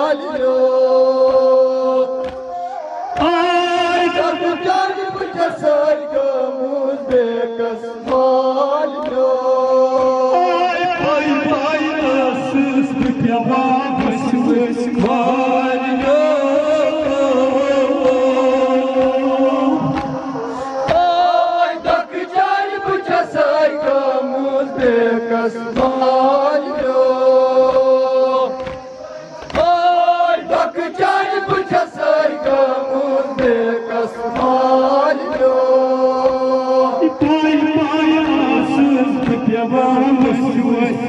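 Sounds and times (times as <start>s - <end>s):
men chanting a lament: 0.0s - 41.0s
rhythmic chest beating slaps: 0.0s - 41.0s.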